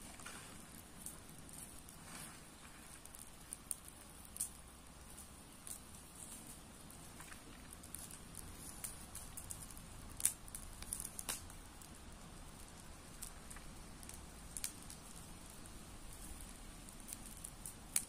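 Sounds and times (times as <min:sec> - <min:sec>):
brush fire crackling and popping: 0:00.0 - 0:18.0.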